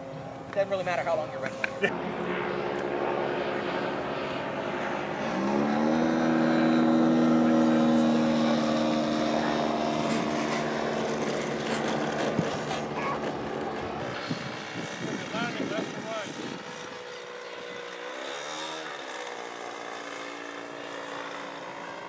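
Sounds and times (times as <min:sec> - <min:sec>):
model airplane engine: 0:00.0 - 0:22.0.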